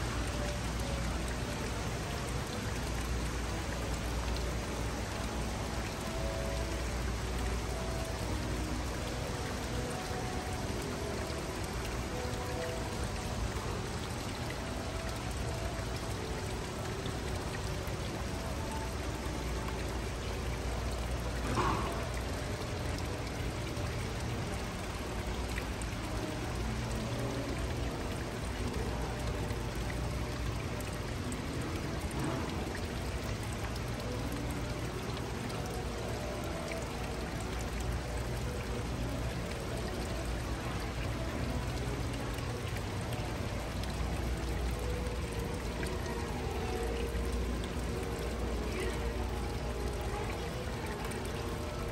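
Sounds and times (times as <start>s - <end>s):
faint music: 0.0s - 51.9s
running water rushing: 0.0s - 51.9s.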